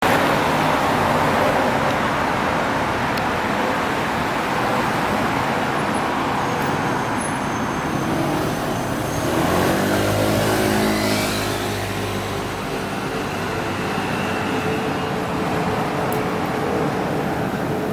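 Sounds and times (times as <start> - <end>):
road traffic rush: 0.0 - 17.9.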